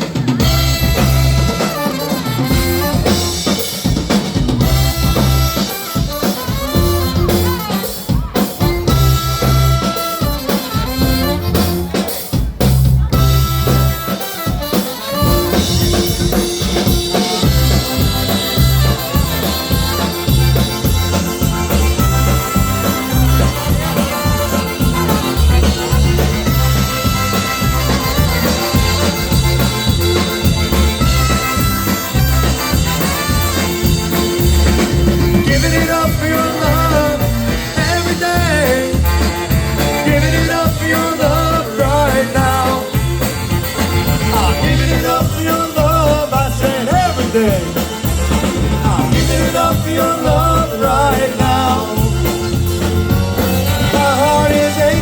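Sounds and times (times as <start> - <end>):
brass melody: 0.0 - 55.0
drum and bass beat: 0.0 - 55.0
live band music: 0.0 - 55.0.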